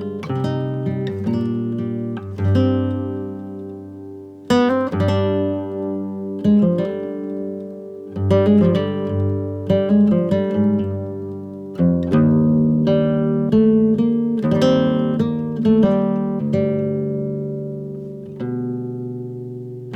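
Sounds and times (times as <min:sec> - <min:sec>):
acoustic guitar music: 0:00.0 - 0:19.9.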